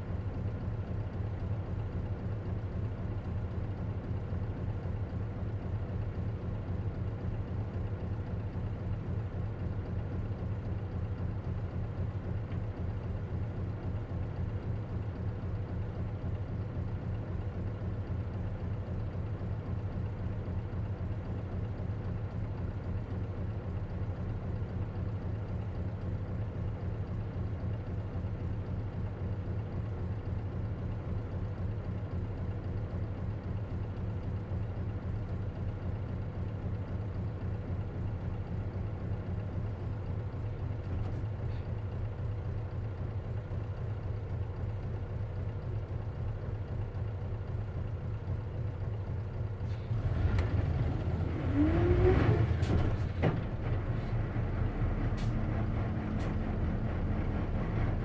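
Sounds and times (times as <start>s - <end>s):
bus diesel engine humming: 0.0s - 58.0s.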